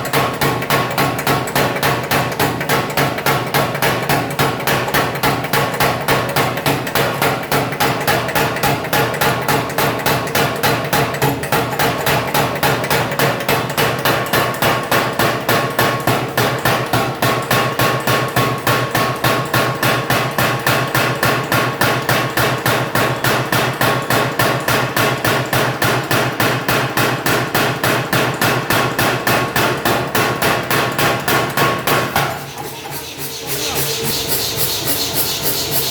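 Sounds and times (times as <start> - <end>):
forging hammer pounding: 0.0 - 35.9.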